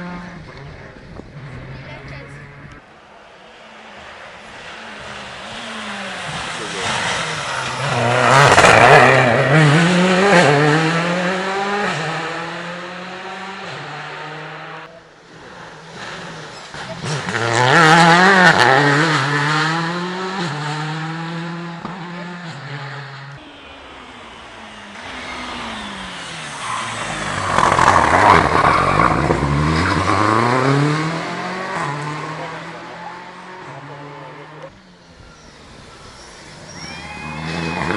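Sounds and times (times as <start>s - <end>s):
rally car engine revving past: 4.0s - 34.7s.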